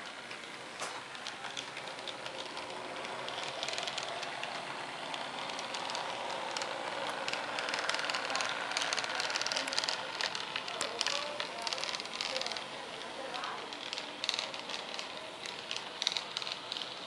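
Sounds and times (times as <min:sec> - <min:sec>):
model train wheels clicking on rails: 0:00.0 - 0:17.0
small electric motor hum: 0:00.0 - 0:17.0.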